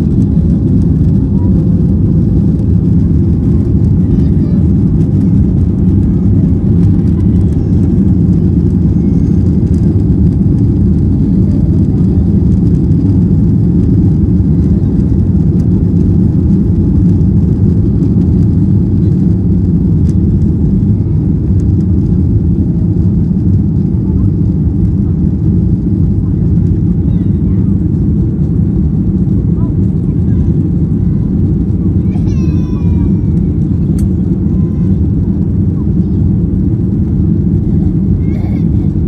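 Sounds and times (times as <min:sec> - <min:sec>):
jet engine rumble in cabin: 0:00.0 - 0:39.0
rushing airflow: 0:00.0 - 0:39.0.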